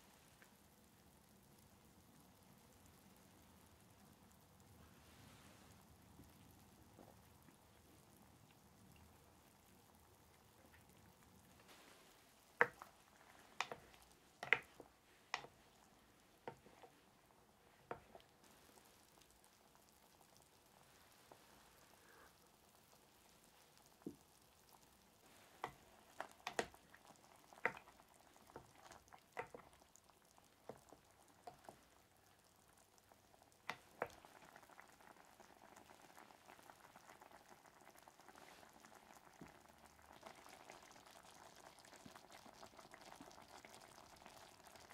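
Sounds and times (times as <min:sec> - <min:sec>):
broth bubbling in a pot: 0:00.0 - 0:44.9.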